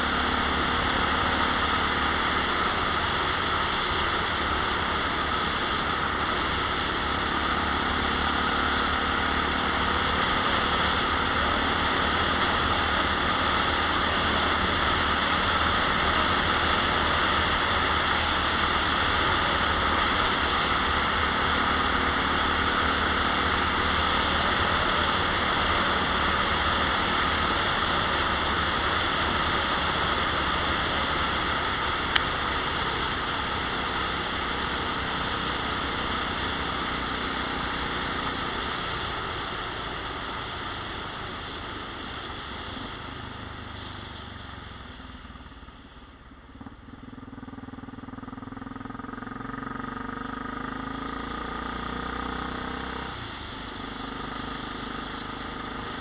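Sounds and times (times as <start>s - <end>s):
faint engine hum: 0.0s - 52.1s
wind and road noise: 0.0s - 56.0s.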